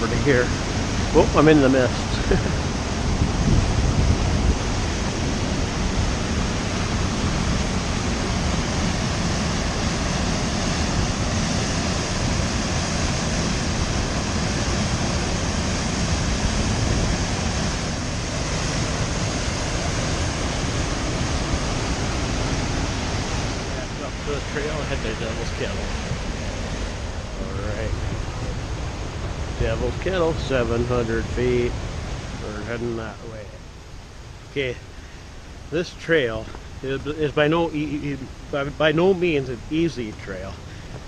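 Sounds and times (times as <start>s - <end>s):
waterfall roaring: 0.0s - 41.0s.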